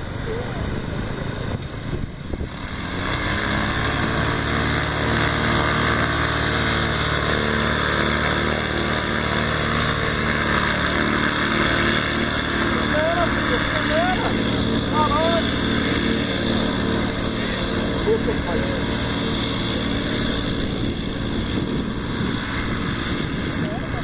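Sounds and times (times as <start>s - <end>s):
paramotor engine and propeller: 0.0s - 24.0s.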